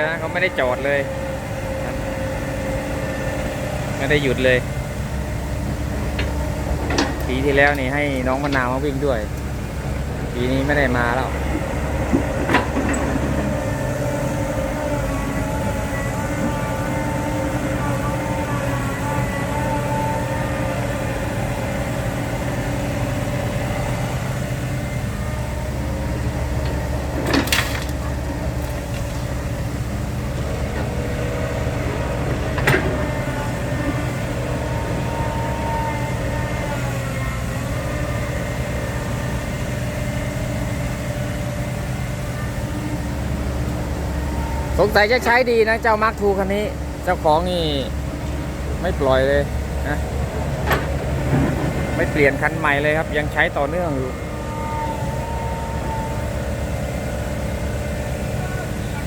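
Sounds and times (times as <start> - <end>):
dump truck diesel engine: 0.0 - 59.0.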